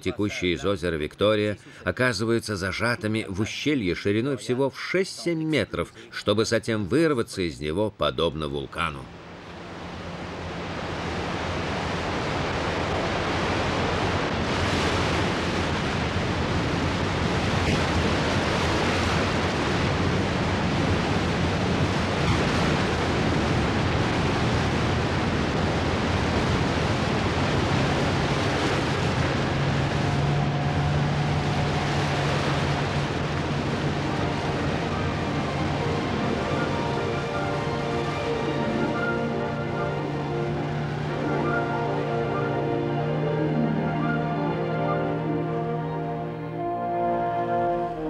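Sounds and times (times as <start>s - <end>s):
waterfall roaring: 8.4s - 48.0s.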